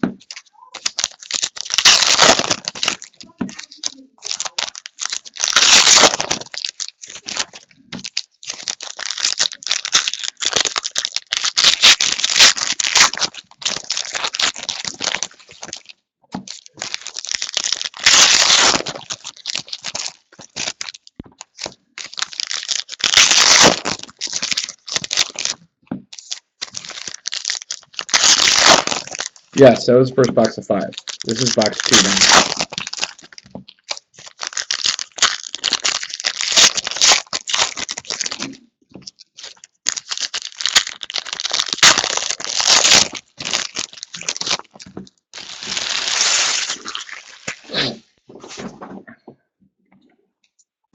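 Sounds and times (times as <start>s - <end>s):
card pack wrappers tearing: 0.0s - 48.6s.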